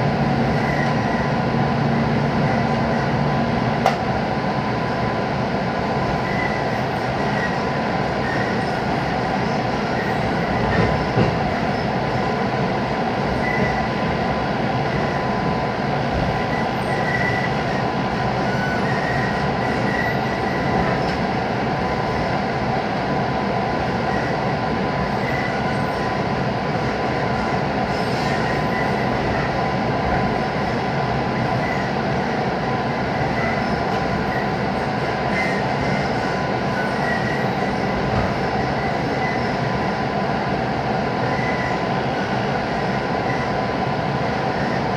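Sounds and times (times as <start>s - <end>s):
train squeals: 0.0s - 4.0s, 5.8s - 44.9s
electric train running rumble: 0.0s - 44.9s.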